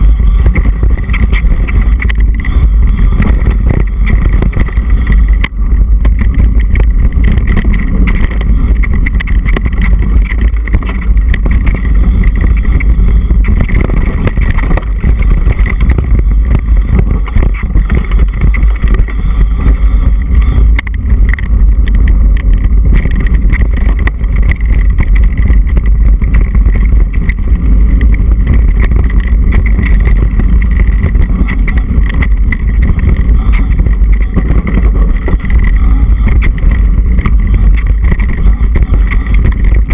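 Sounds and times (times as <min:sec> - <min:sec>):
bike knocks and rattles: 0:00.0 - 0:39.9
wind rush on microphone: 0:00.0 - 0:39.9.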